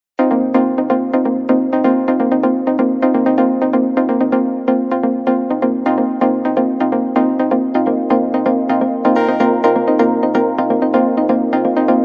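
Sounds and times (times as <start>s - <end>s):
electronic music with synth notes: 0.2s - 12.0s.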